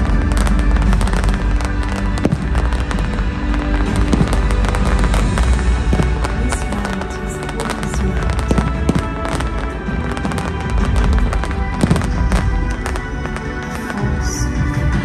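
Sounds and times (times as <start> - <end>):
fireworks cracking and banging: 0.0 - 15.0
loud music playing: 0.0 - 15.0.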